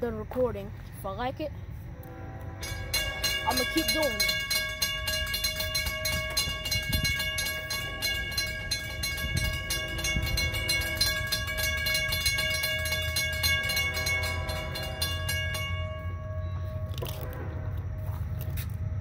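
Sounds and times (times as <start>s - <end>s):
low rumble: 0.7s - 19.0s
crossing warning bell ringing: 1.9s - 18.8s.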